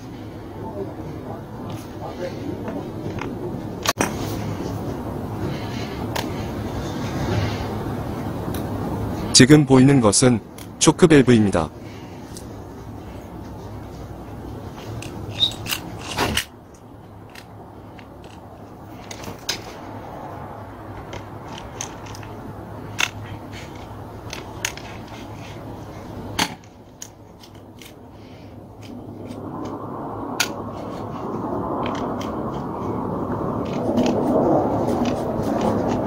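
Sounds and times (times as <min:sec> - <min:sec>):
rushing noise: 0:00.0 - 0:36.0
steady low hum: 0:00.0 - 0:36.0.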